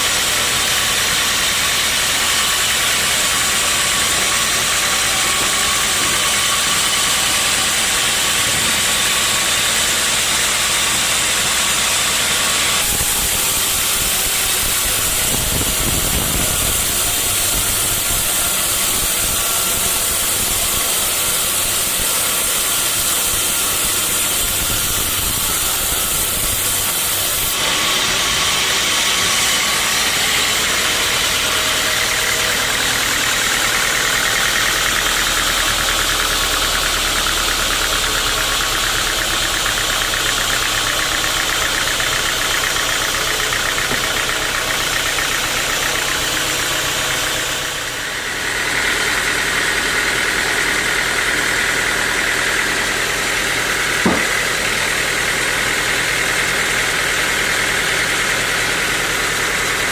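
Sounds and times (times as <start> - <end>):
sawmill machinery hissing: 0.0 - 59.9.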